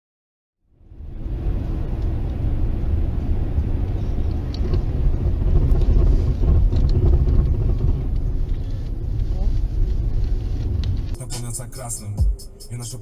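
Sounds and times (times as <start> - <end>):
car road and engine rumble: 0.6 - 13.0.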